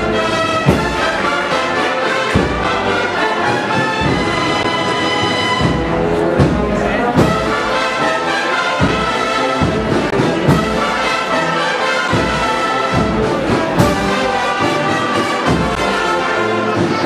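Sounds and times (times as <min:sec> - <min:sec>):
brass band playing a march: 0:00.0 - 0:17.0.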